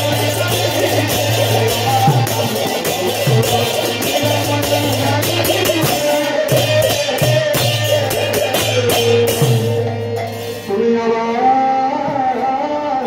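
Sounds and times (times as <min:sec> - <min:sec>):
hand drum: 0:00.0 - 0:10.7
person singing: 0:00.0 - 0:13.0.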